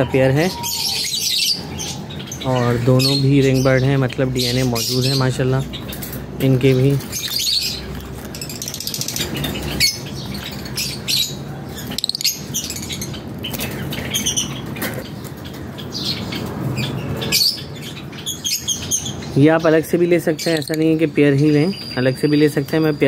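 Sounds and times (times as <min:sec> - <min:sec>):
lovebirds chirping: 0:00.0 - 0:23.0.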